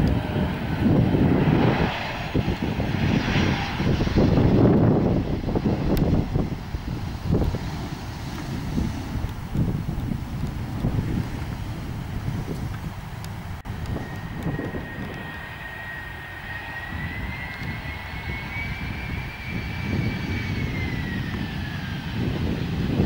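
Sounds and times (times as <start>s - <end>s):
jet engine whine: 0.0s - 23.0s
low engine rumble: 0.0s - 23.0s
wind gusts on microphone: 0.0s - 23.0s.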